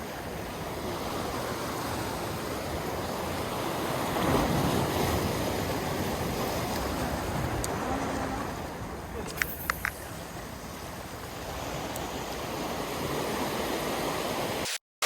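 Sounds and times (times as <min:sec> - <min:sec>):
sea waves washing in: 0:00.0 - 0:14.7
wind: 0:00.0 - 0:14.8.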